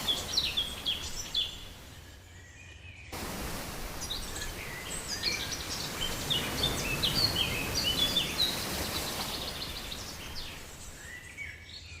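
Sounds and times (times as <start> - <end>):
songbirds chirping and singing: 0.0 - 3.2, 4.0 - 12.0.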